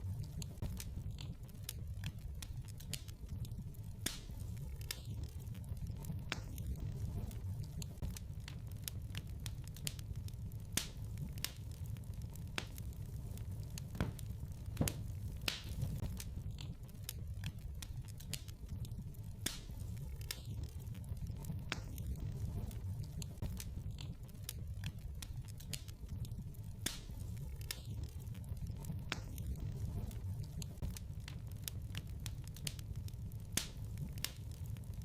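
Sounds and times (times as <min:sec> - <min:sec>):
low steady rumble: 0:00.0 - 0:35.0
wood fire crackling and popping: 0:00.0 - 0:35.0.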